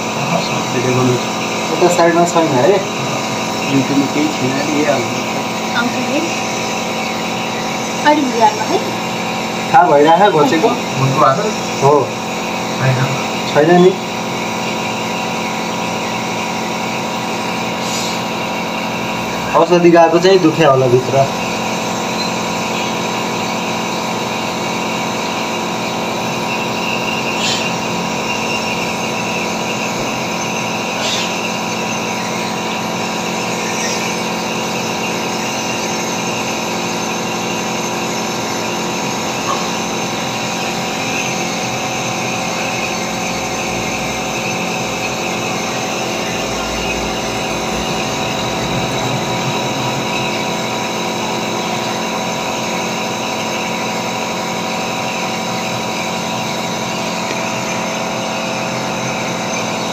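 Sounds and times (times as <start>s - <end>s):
electric motor humming: 0.0s - 59.9s.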